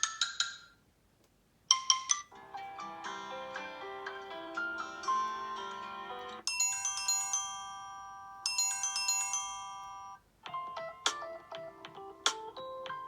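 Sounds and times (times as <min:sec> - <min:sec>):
phone ringtone melodies: 0:01.7 - 0:13.0.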